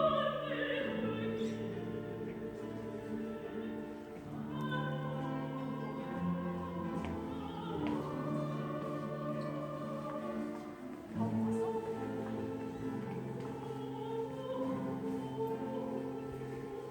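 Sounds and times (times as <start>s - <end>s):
guitars playing slow chords: 0.0s - 16.9s
soprano singing: 0.0s - 16.9s.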